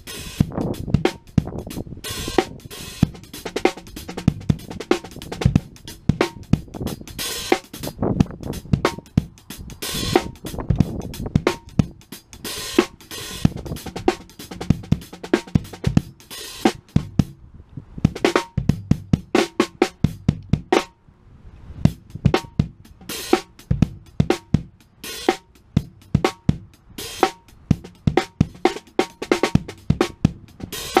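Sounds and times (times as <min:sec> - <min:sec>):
drum kit groove: 0:00.0 - 0:17.4, 0:18.1 - 0:20.9, 0:21.9 - 0:31.0.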